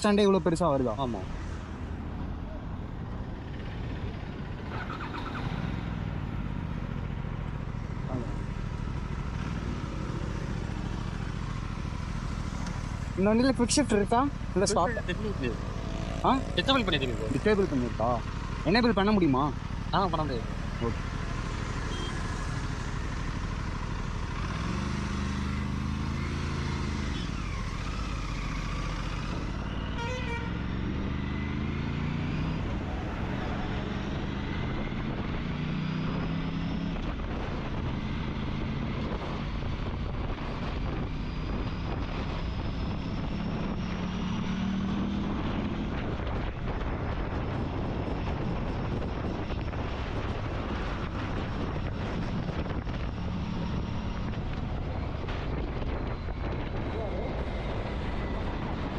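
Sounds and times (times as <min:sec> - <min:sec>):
wind and road noise: 0:00.0 - 0:58.9
motorcycle engine accelerating: 0:01.6 - 0:58.9.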